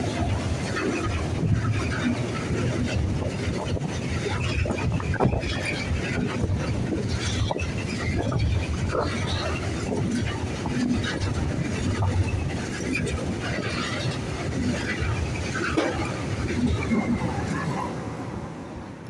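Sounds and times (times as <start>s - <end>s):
wheels clicking over rail joints: 0.0s - 17.9s
freight train rumbling: 0.0s - 19.0s.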